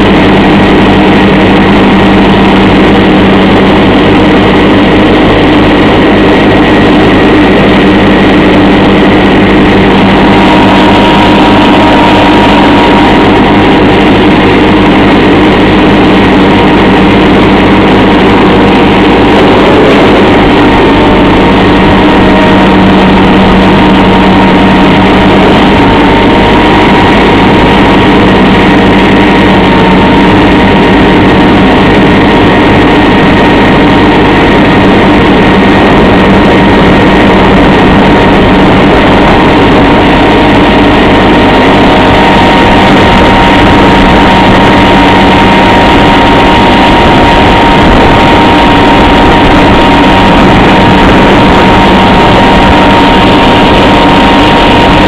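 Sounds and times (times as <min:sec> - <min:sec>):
garden tractor engine running: 0:00.0 - 0:55.0
mower cutting grass: 0:00.0 - 0:55.0
steady high whine: 0:00.0 - 0:55.0.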